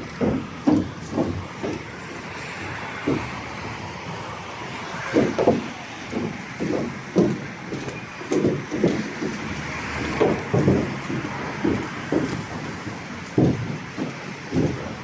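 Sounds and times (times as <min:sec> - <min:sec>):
footsteps walking: 0:00.0 - 0:15.0.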